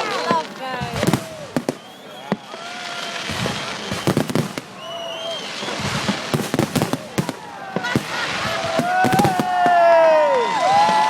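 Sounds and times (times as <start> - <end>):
crowd chatter and shouts: 0.0 - 11.0
firecrackers banging: 0.0 - 11.0.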